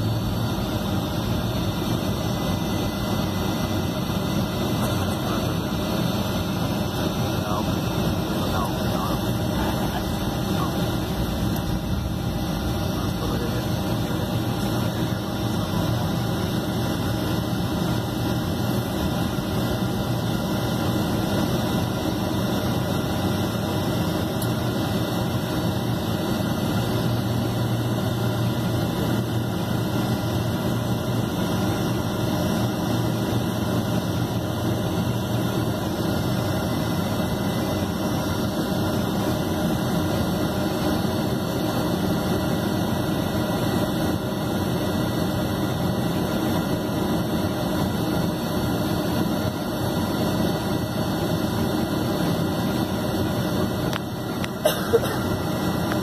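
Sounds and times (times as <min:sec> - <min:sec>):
jet engines humming in cabin: 0:00.0 - 0:56.0.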